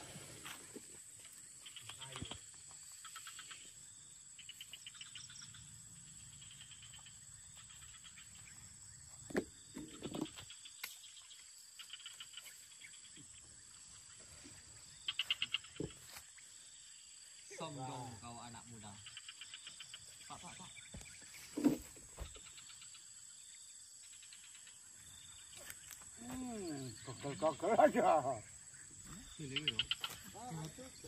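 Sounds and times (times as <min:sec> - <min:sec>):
insects chirping: 0:00.0 - 0:31.0.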